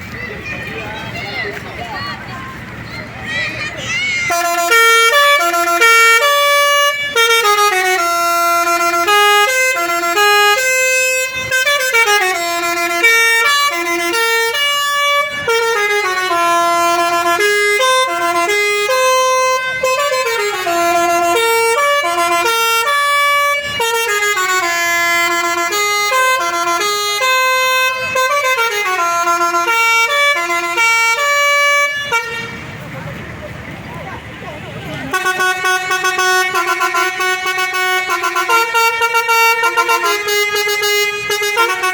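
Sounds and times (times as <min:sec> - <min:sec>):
multi-tone air horn melody: 0:04.2 - 0:32.8, 0:34.8 - 0:41.9.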